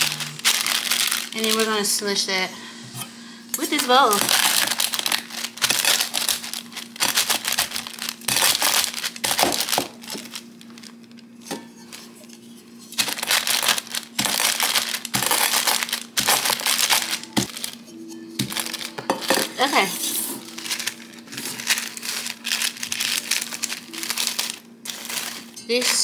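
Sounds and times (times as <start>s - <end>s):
plastic wrap crinkling: 0.0s - 2.2s, 3.6s - 26.0s.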